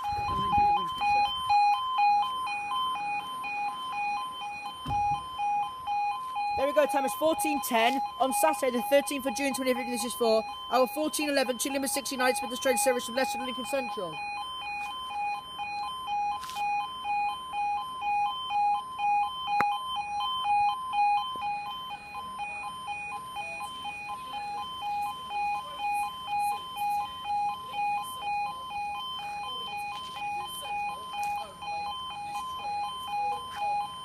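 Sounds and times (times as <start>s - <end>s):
level crossing two-tone alarm: 0.0s - 34.0s.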